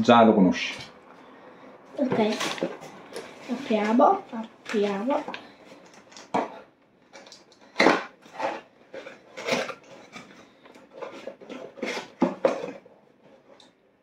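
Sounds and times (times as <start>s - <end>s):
paper rustling and crinkling: 2.0s - 13.6s.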